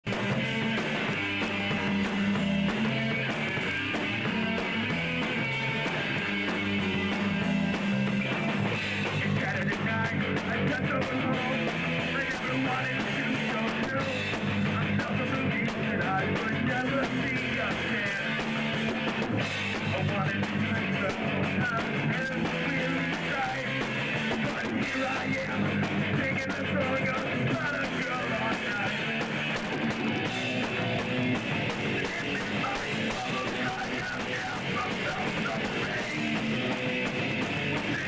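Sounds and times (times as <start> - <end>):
drums: 0.0 - 38.0
punk rock guitars: 0.0 - 38.0.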